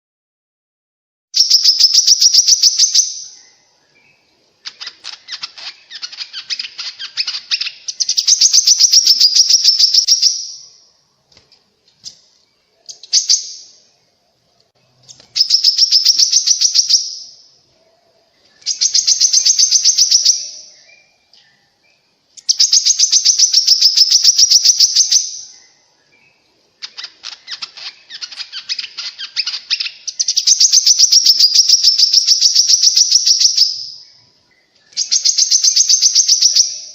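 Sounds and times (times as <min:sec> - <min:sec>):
bird chattering song: 0:01.4 - 0:10.8, 0:12.0 - 0:13.9, 0:14.8 - 0:36.9.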